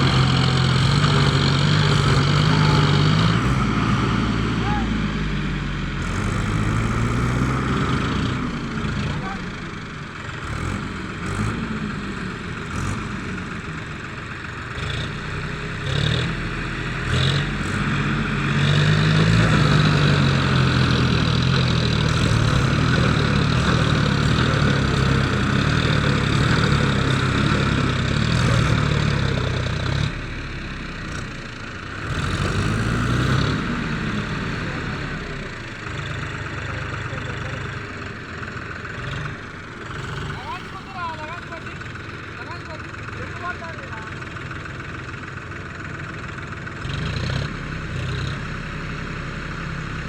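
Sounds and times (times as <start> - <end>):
tractor diesel engine revving: 0.0 - 50.0.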